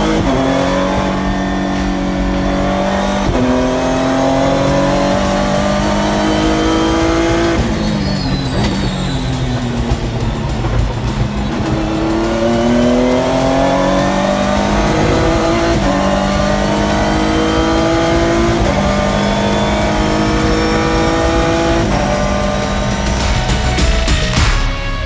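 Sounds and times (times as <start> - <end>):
race car engine accelerating: 0.0 - 24.4.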